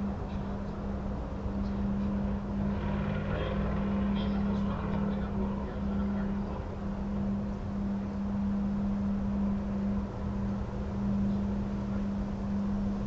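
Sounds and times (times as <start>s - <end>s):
steady low hum: 0.0s - 13.0s
wind rumbling on microphone: 0.0s - 13.0s.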